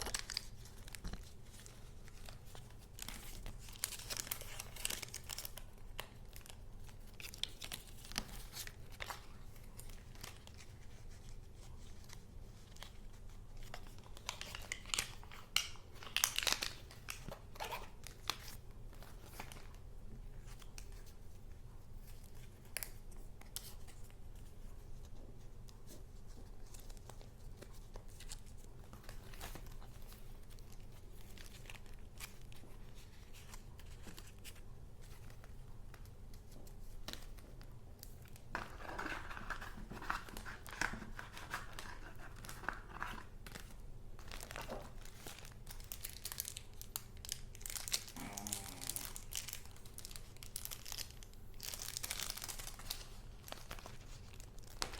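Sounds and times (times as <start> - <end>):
paper rustling and crinkling: 0.0 - 54.9.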